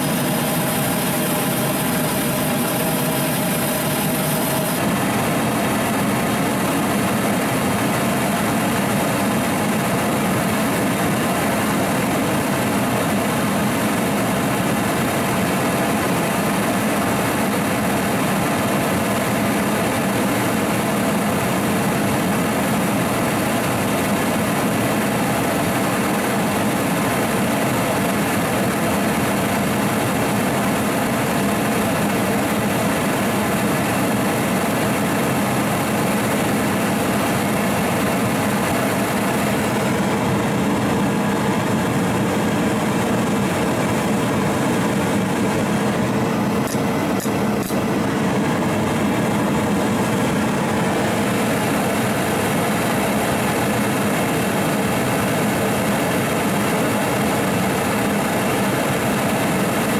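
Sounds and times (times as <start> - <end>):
propane burner roaring: 0.0 - 59.9.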